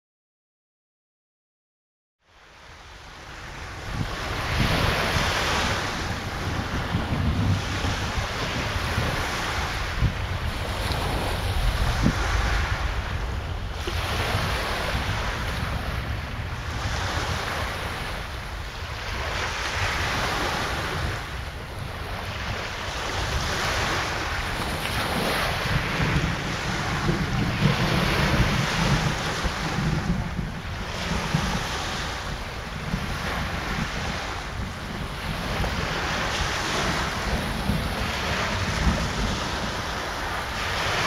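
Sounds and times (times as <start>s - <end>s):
waves breaking on shore: 2.3s - 41.0s
wind buffeting microphone: 2.6s - 41.0s.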